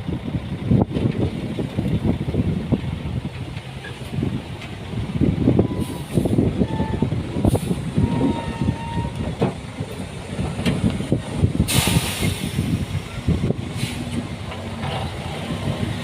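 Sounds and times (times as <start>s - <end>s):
heavy machinery engine: 0.0s - 16.0s.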